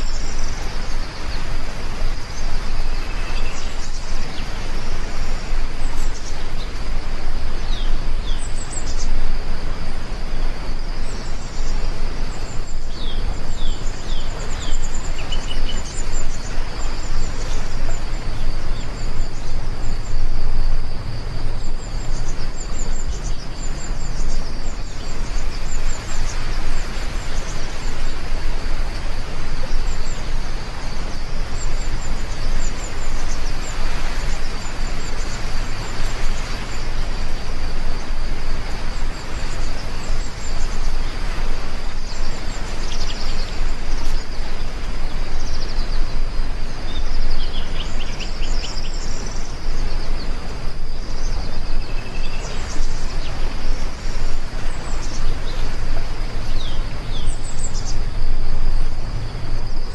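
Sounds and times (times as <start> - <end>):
birds chirping: 0.0 - 59.9
heavy rain: 0.0 - 59.9.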